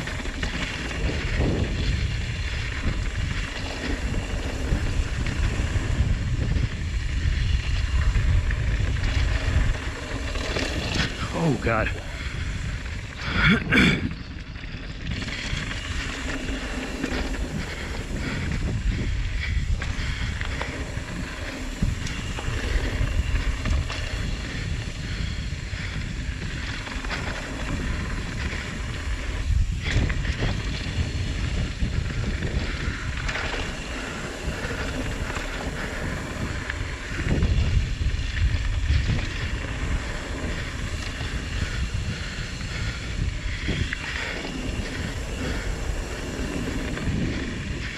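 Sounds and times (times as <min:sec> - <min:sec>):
bike knocking and rattling: 0:00.0 - 0:47.9
tyres rolling over dirt: 0:00.0 - 0:47.9
wind rushing over microphone: 0:00.0 - 0:47.9.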